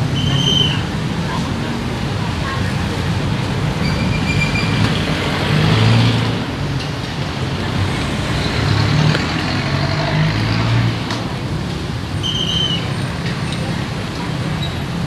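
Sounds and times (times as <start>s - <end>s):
passing traffic hum: 0.0s - 15.0s.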